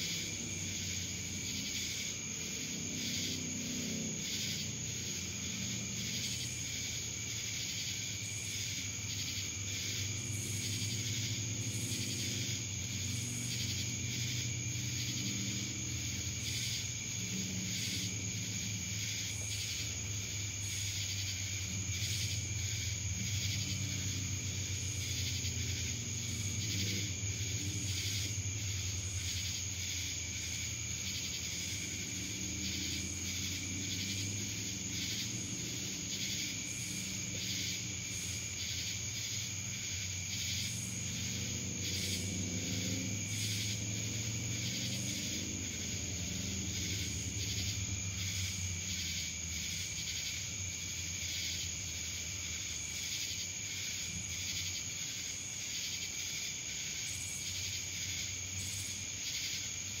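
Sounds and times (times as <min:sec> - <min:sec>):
cicadas trilling: 0:00.0 - 1:00.0.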